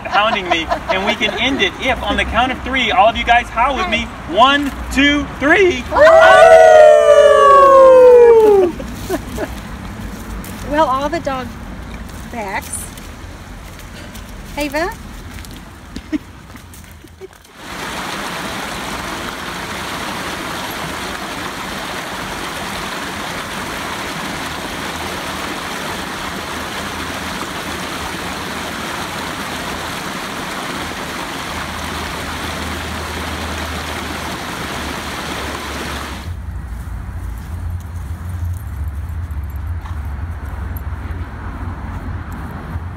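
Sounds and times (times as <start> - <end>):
creek water rushing over rocks: 0.0 - 36.4.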